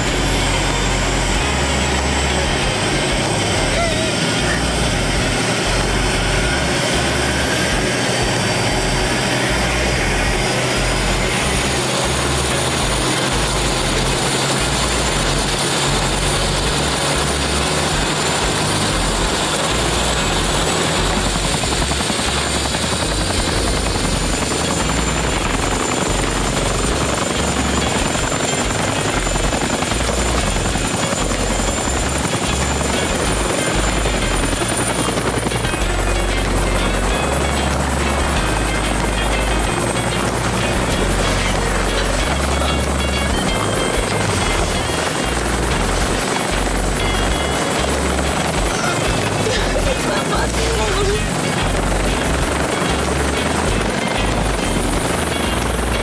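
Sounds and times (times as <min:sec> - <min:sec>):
helicopter engine and rotor: 0:00.0 - 0:56.0
high turbine whine: 0:00.0 - 0:56.0.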